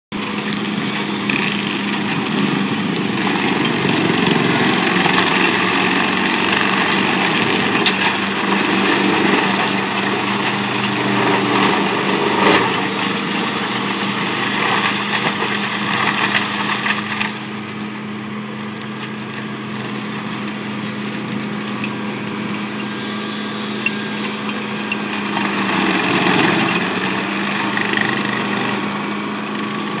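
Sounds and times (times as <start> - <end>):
wood chipper engine running: 0.1 - 30.0
branches crackling being chipped: 0.3 - 28.9.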